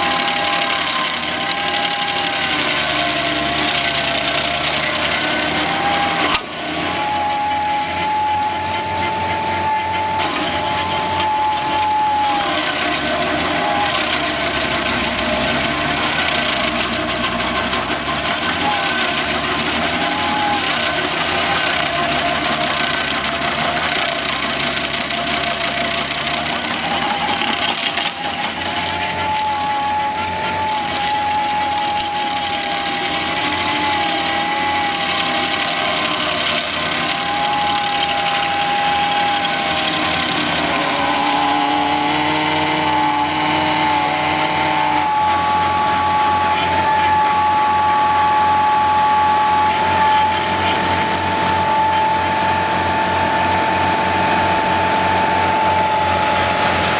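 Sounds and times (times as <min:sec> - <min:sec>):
stump grinder cutter wheel whine: 0:00.0 - 0:56.9
tractor engine under load: 0:00.0 - 0:56.9.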